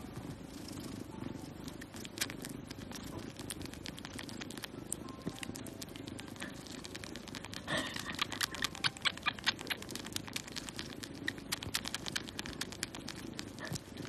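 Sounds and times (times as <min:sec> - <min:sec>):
kitten suckling soft clicks: 0:01.8 - 0:14.0.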